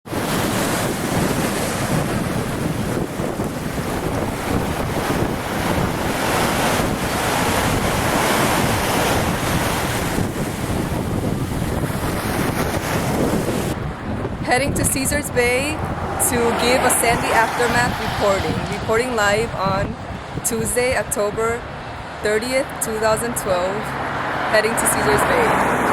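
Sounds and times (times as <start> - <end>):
wind buffeting microphone: 0.1 - 25.9.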